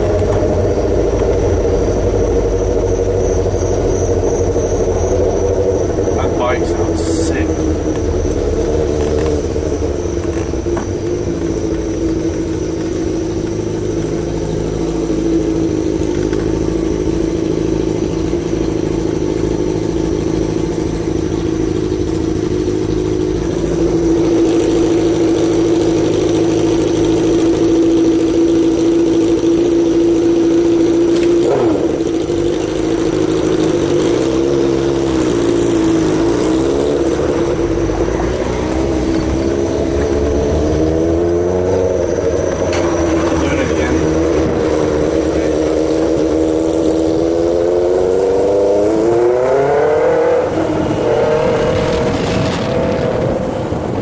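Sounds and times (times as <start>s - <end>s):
car engine and road drone: 0.0s - 54.0s
falling pitch sweep: 0.0s - 54.0s.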